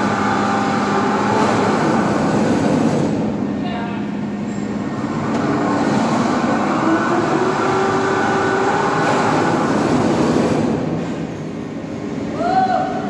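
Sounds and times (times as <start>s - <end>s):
crane mechanical hum and whine: 0.0s - 13.0s.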